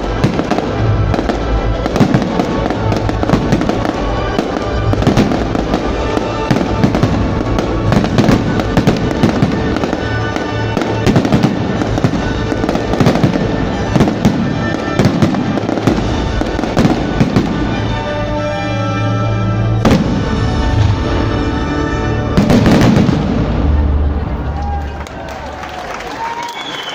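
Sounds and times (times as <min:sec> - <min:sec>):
music on loudspeakers: 0:00.0 - 0:23.3
fireworks bangs and crackles: 0:00.0 - 0:24.9.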